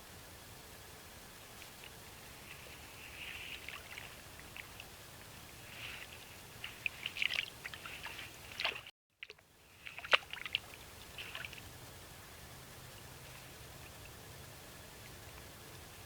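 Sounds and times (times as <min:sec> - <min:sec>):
water splashing and trickling: 0:01.6 - 0:16.0.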